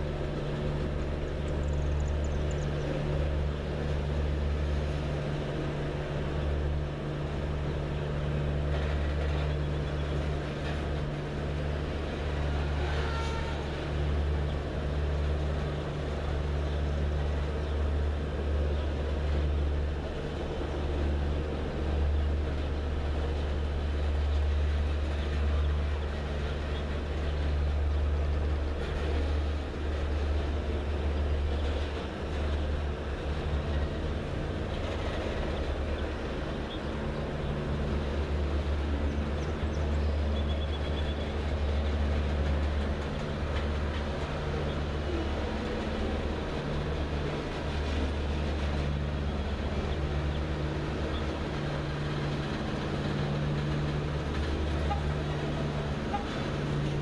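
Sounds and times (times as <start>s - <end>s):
freight train wheels on rails: 0.0s - 57.0s
low train rumble: 0.0s - 57.0s.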